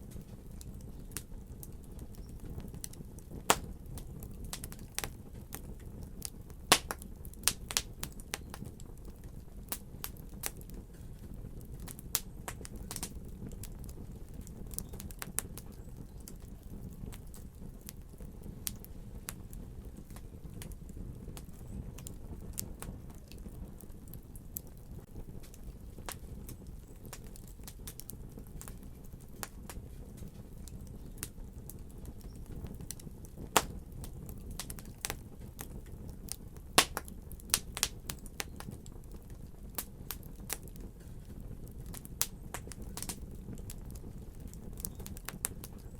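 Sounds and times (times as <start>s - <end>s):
low rumble of flame: 0.0s - 45.9s
wood fire crackling and popping: 0.0s - 45.9s.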